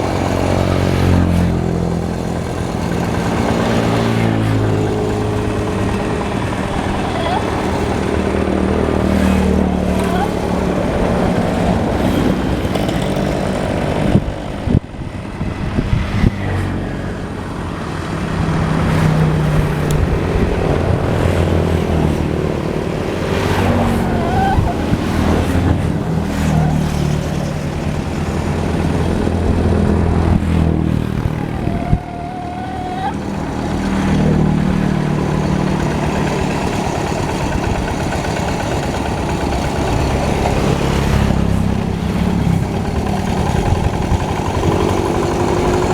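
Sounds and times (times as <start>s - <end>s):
hand tractor engine running: 0.0s - 45.9s.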